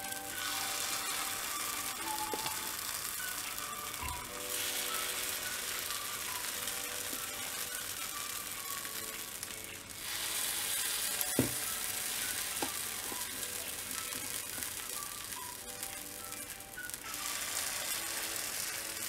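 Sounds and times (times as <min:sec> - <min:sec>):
batter sizzling in hot oil: 0:00.0 - 0:19.0.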